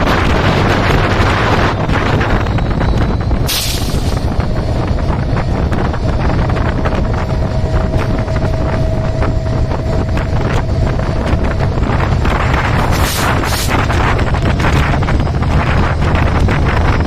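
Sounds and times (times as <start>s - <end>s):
train rumbling past: 0.0s - 17.0s
wheels clacking on rails: 0.0s - 17.0s
wind buffeting microphone: 0.0s - 17.0s.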